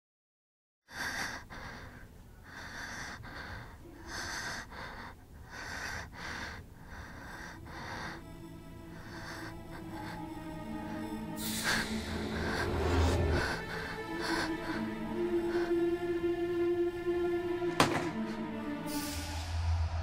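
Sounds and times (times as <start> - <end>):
person breathing heavily: 0.9 - 20.0.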